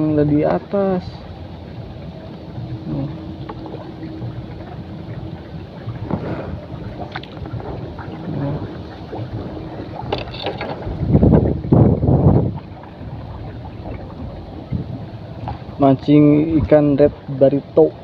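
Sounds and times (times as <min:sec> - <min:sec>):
faint motor hum: 0:00.0 - 0:18.0
wind buffeting microphone: 0:00.0 - 0:18.0.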